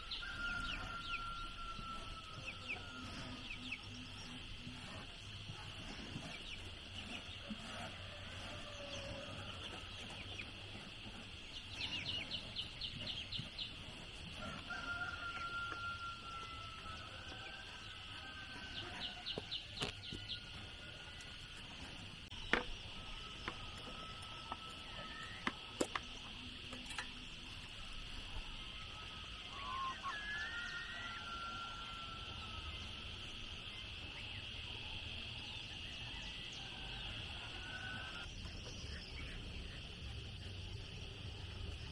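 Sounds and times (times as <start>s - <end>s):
roosters crowing: 0.0s - 26.8s, 28.8s - 33.7s, 35.8s - 38.3s.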